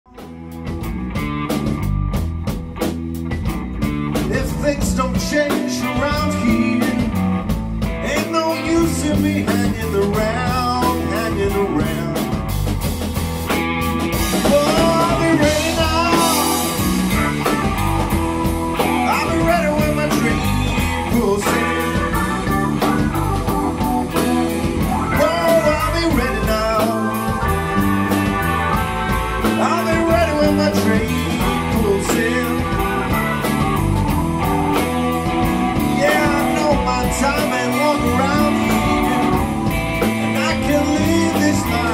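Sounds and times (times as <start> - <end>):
bending electric guitar lead: 0.1 - 41.9
blues-rock band playing: 0.1 - 41.9.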